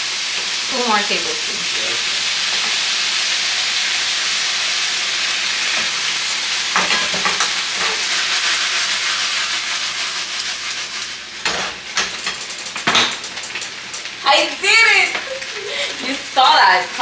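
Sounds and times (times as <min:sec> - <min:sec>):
stir fry sizzling in a pan: 0:00.0 - 0:17.0.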